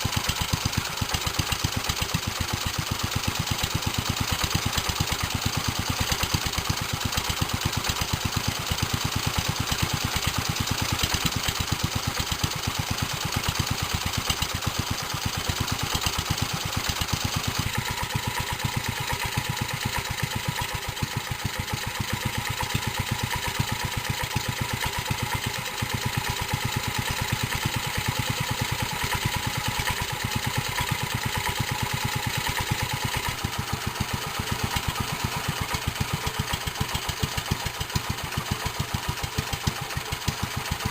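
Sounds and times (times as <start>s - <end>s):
stationary engine running: 0.0s - 40.9s.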